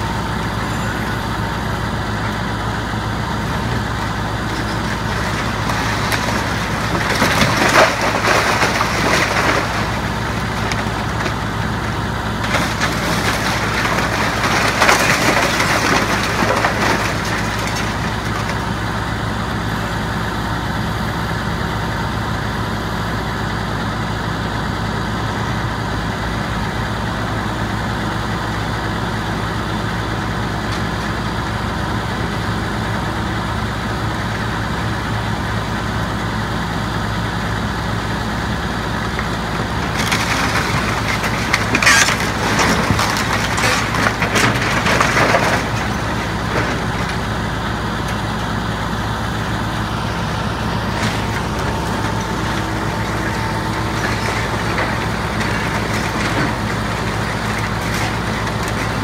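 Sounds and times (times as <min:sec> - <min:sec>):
debris crunching and crashing: 0:00.0 - 0:20.6, 0:27.7 - 0:59.0
diesel engine running: 0:00.0 - 0:59.0.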